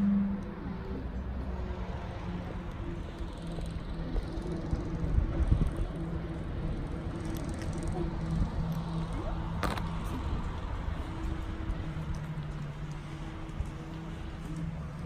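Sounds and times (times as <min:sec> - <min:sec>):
vehicles driving by on road: 0:00.0 - 0:15.0.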